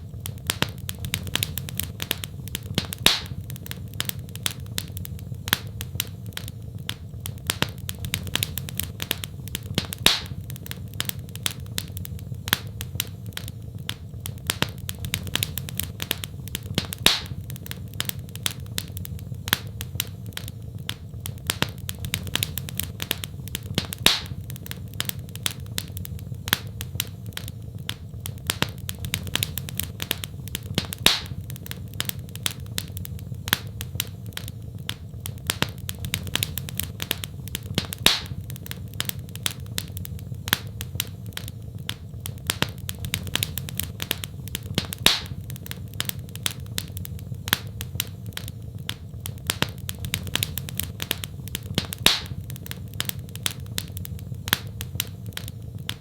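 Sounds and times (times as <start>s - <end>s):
fire crackling in fireplace: 0.0s - 56.0s
loud fire pop: 0.1s - 56.0s.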